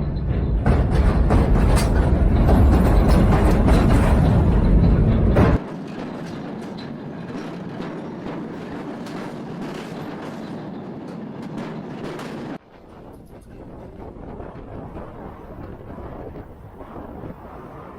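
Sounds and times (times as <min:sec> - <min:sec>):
train rattling on rails: 0:00.0 - 0:17.4
wind noise: 0:00.0 - 0:17.9.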